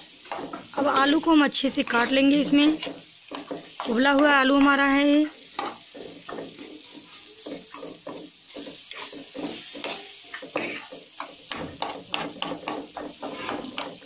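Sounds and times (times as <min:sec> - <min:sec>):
light sizzle: 0:00.0 - 0:14.0
spatula scraping a pan: 0:00.0 - 0:14.0.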